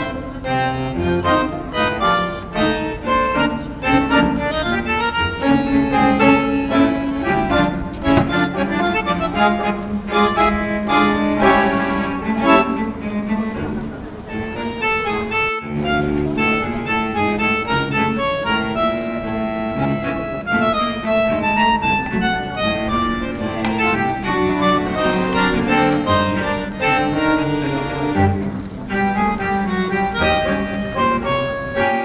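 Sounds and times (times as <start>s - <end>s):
instrumental background music: 0.5s - 13.4s, 14.4s - 32.0s.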